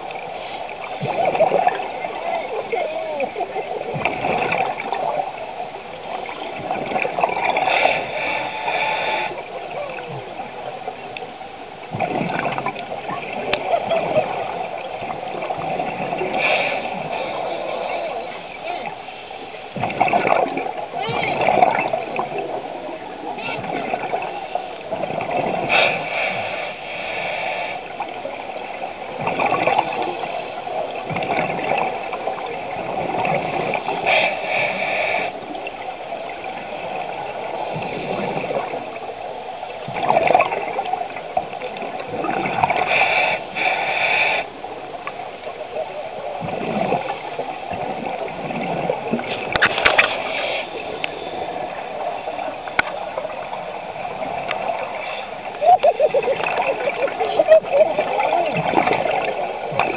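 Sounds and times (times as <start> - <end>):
bubbles gurgling underwater: 0.0 - 8.2, 9.2 - 18.9, 19.7 - 26.0, 27.8 - 34.1, 35.4 - 42.9, 44.6 - 59.9
water rushing: 0.0 - 59.9.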